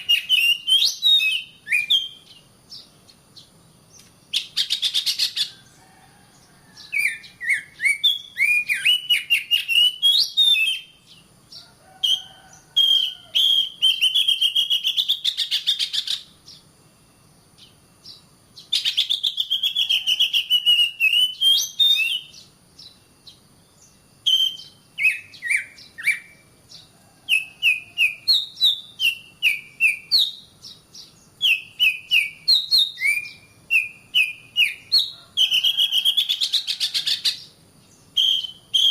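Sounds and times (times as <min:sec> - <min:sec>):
bird singing whistled notes: 0:00.0 - 0:05.8, 0:06.7 - 0:11.3, 0:12.0 - 0:38.9.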